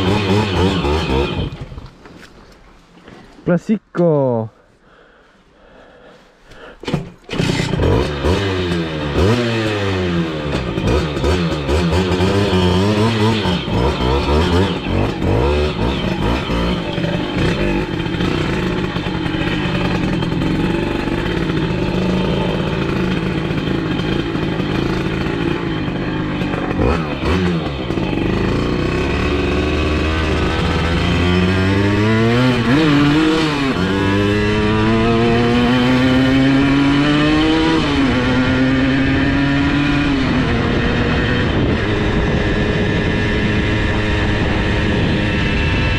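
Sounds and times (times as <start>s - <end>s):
moped engine revving: 0.0s - 1.9s, 6.6s - 45.9s.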